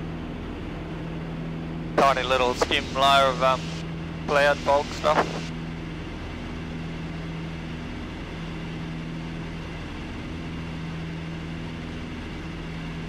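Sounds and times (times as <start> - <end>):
aircraft engines droning in flight: 0.0 - 13.0.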